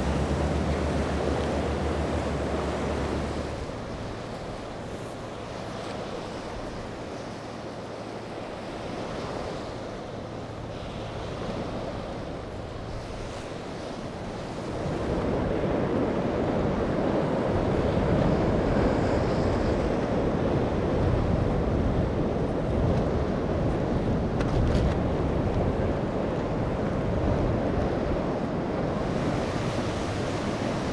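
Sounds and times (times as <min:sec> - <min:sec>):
ocean surf rushing: 0:00.0 - 0:30.9
wind buffeting microphone: 0:00.0 - 0:30.9.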